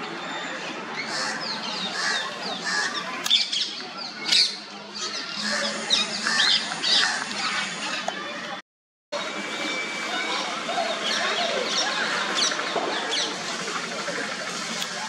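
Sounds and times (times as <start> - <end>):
low background murmur: 0.0 - 8.6, 9.2 - 15.0.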